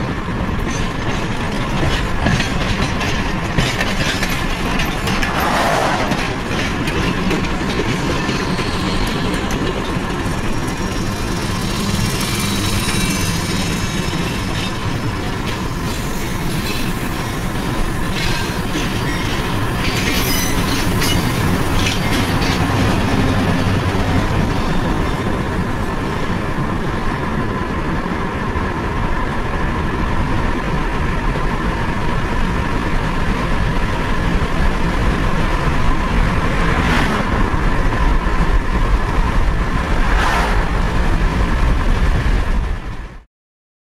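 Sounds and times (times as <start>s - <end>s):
rail clatter: 0.0s - 43.1s
car road and wind noise: 0.0s - 43.2s
passenger train running: 0.0s - 43.3s.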